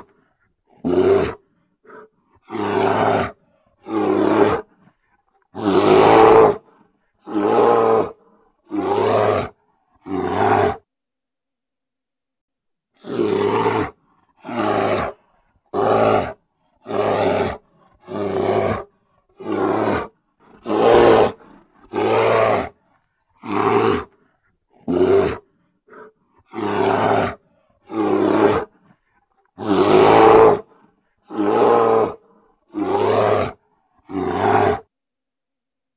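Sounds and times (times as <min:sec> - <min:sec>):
bear roaring: 0:00.0 - 0:10.8, 0:13.0 - 0:34.9.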